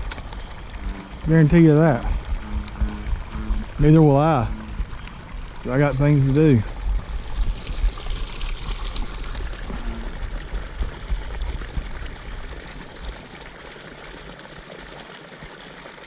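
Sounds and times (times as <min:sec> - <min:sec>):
low rumble: 0:00.0 - 0:12.9
water pouring into a pond: 0:00.0 - 0:16.0.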